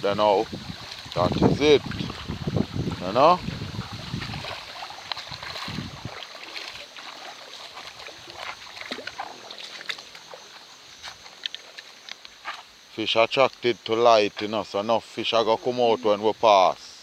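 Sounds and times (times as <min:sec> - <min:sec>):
river water splashing and trickling: 0:00.0 - 0:17.0.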